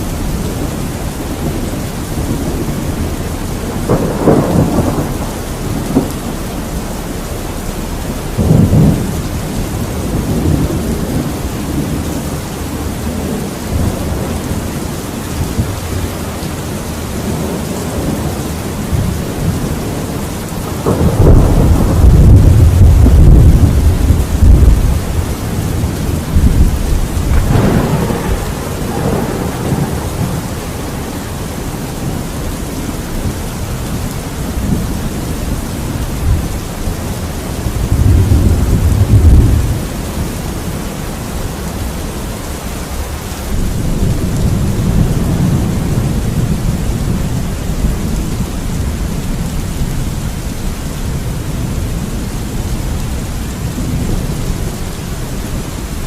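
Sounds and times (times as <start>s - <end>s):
low thunder rolling: 0.0s - 56.0s
steady rain: 0.0s - 56.0s.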